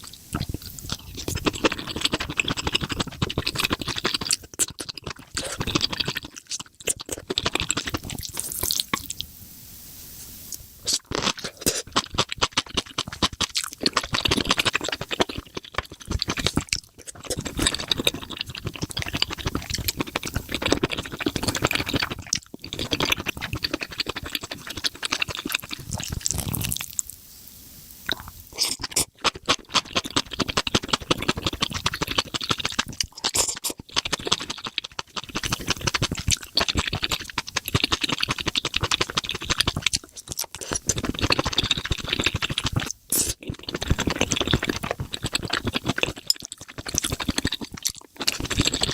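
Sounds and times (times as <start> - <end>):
wet chewing: 0.0 - 9.2, 10.5 - 27.2, 28.0 - 48.9.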